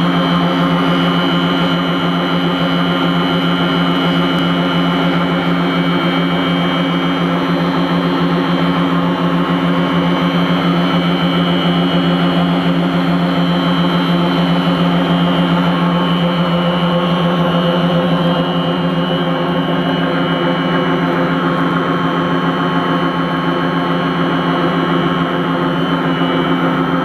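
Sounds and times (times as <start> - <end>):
high machine whine: 0.0 - 27.0
machine motor low hum: 0.0 - 27.0.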